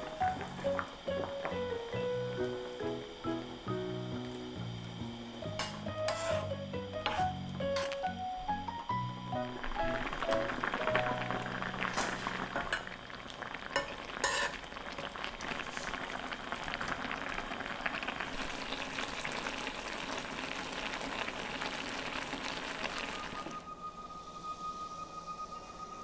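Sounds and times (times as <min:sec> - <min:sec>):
sauce bubbling and sizzling in a pan: 0:00.0 - 0:23.6.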